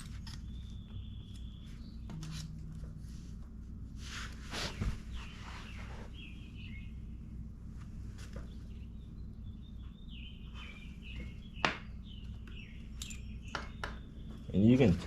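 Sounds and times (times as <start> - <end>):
birds chirping: 0.0 - 3.1, 4.4 - 15.0
steady low hum: 0.0 - 15.0.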